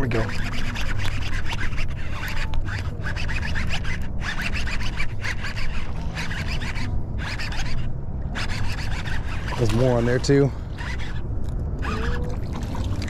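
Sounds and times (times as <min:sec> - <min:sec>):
scratchy rubbing and rustling: 0:00.0 - 0:13.0
steady low hum: 0:00.0 - 0:13.0.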